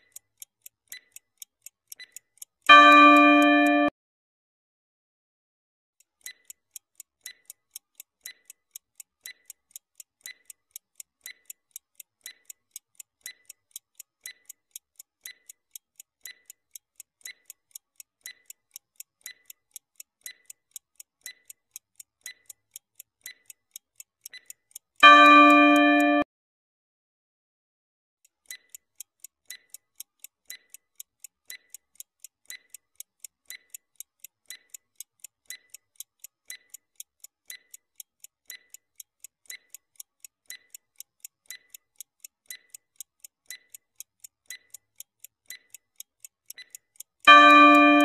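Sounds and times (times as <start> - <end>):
clock ticking: 0.0 - 3.9, 6.0 - 26.2, 28.2 - 48.0.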